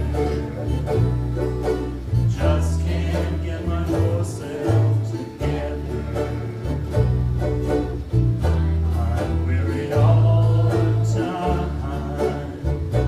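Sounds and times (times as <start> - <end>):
group singing: 0.0 - 1.2, 1.8 - 7.7, 8.8 - 13.0
low bass notes: 0.0 - 13.0
ukulele group strumming: 0.0 - 13.0.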